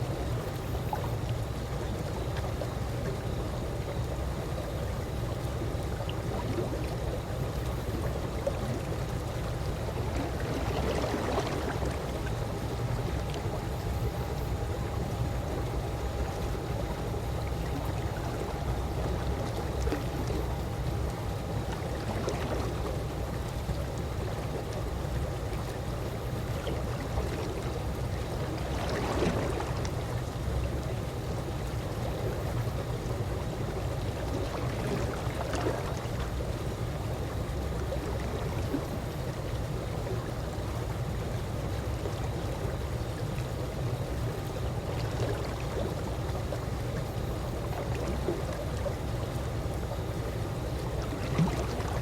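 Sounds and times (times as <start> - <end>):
pool water lapping: 0.0 - 52.0.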